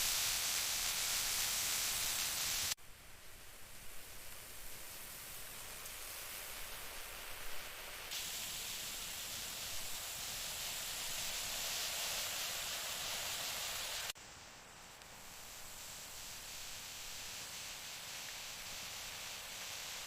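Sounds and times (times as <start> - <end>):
food sizzling in a pan: 0.0 - 2.8, 3.4 - 20.0.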